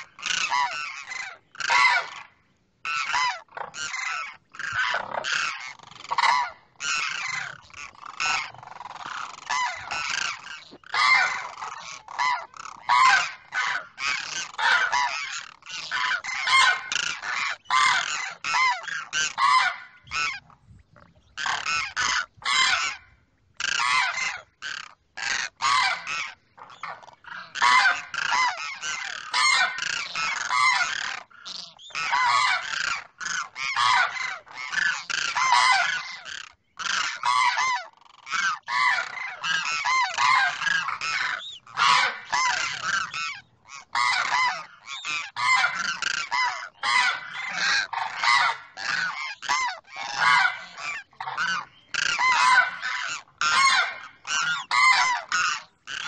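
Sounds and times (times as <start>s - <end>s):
cranes honking calls: 0.0s - 56.0s.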